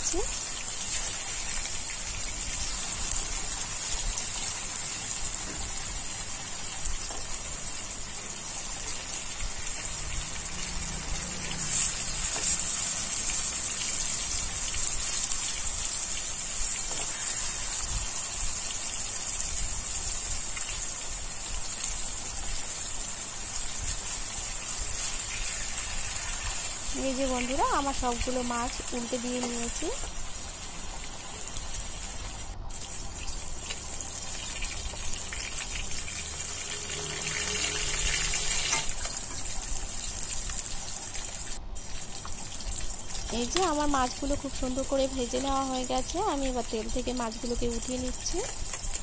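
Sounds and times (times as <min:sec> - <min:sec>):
fish sizzling in hot oil: 0:00.0 - 0:49.0.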